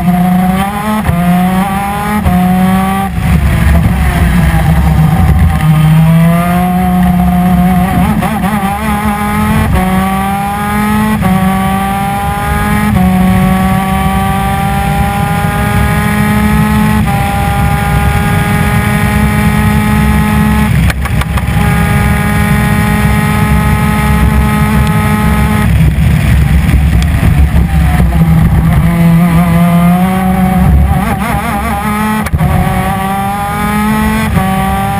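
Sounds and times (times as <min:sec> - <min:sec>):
kart engine revving through gears: 0:00.0 - 0:34.9.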